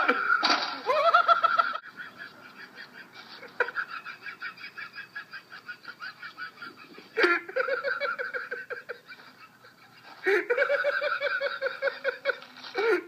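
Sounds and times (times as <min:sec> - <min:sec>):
person laughing hysterically: 0:00.0 - 0:13.0.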